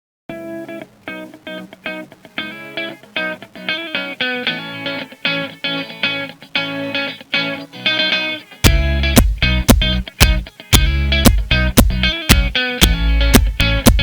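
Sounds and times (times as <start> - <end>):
picked guitar notes: 0.3 - 14.0.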